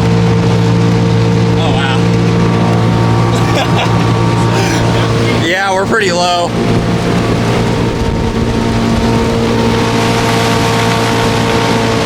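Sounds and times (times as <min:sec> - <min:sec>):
outboard motor running: 0:00.0 - 0:12.0
water rushing: 0:00.0 - 0:12.0
wind: 0:00.0 - 0:12.0.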